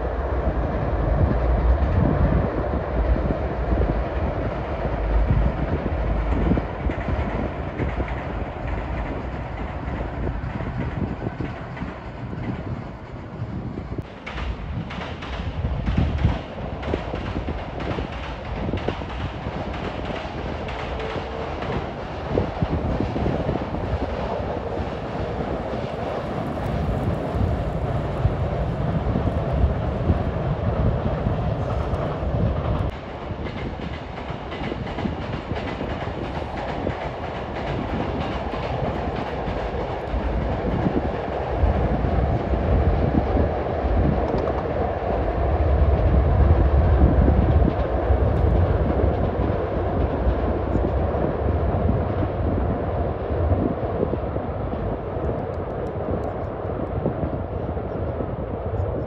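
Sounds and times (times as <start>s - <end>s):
train rumbling over bridge: 0.0s - 59.0s
wheels clattering on rails: 0.8s - 52.7s.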